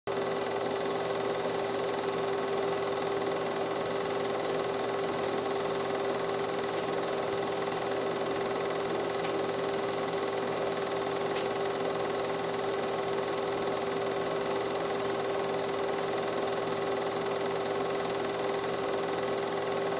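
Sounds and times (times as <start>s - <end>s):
film projector whirring: 0.1s - 19.9s.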